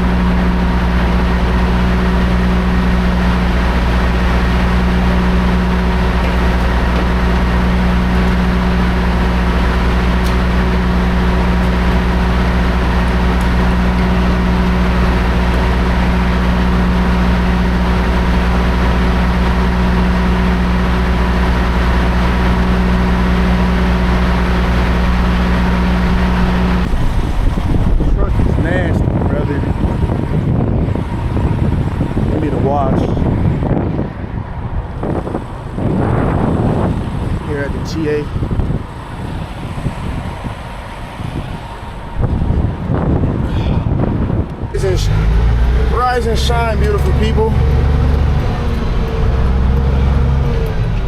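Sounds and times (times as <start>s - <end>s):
diesel truck engine droning: 0.0s - 51.0s.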